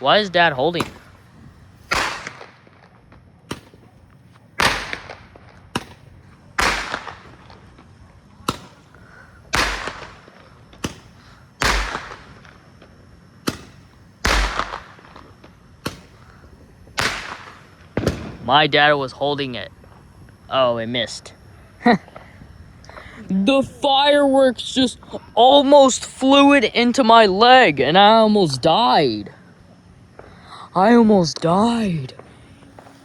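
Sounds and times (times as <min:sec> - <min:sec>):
fireworks sharp bangs: 0:00.0 - 0:28.2, 0:29.4 - 0:30.5, 0:31.2 - 0:33.0.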